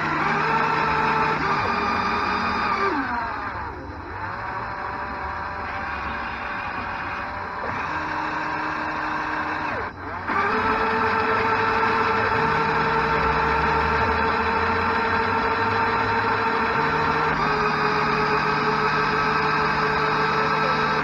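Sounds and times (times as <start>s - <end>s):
electric motors and gears whining: 0.0s - 21.0s.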